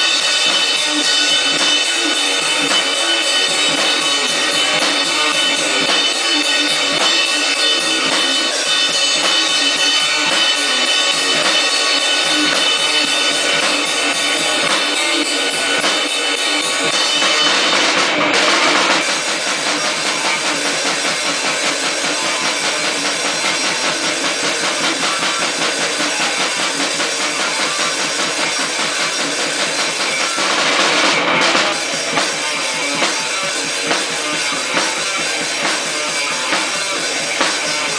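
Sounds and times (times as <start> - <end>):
distorted grindcore music: 0.0 - 37.9
fast rapid drumming: 0.0 - 37.9.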